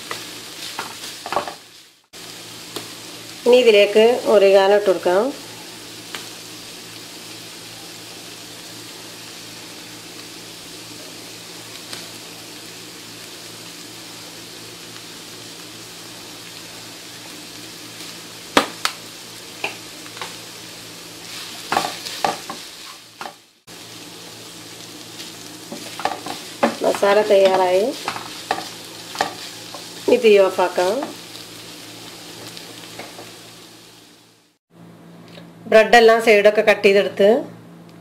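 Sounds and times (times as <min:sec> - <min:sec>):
food sizzling in a frying pan: 0:00.0 - 0:34.6.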